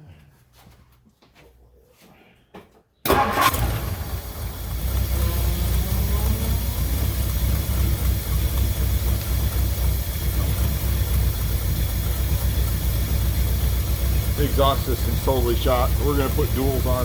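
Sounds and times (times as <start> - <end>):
car engine idling with deep rumble: 3.2 - 17.0.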